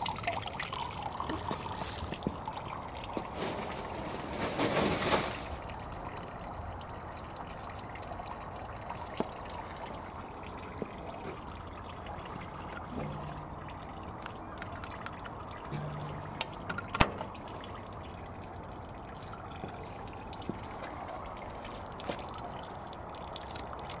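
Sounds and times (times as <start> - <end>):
coolant trickling: 0.0 - 24.0.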